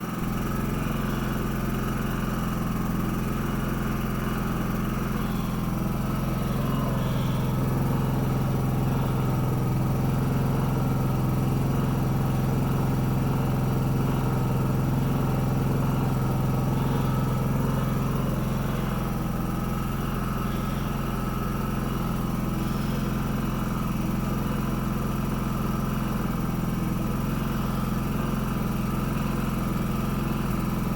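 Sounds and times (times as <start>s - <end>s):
generator running: 0.0s - 30.9s.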